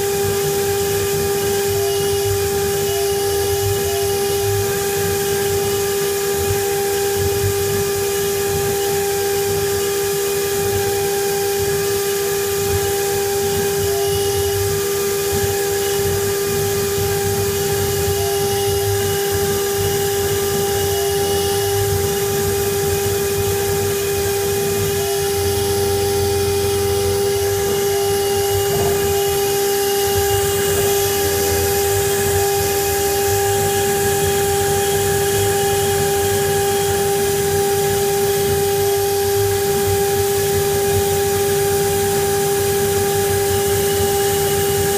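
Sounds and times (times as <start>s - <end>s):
cnc router spindle high whine: 0.0s - 44.9s
hiss of bit cutting wood: 0.0s - 44.9s.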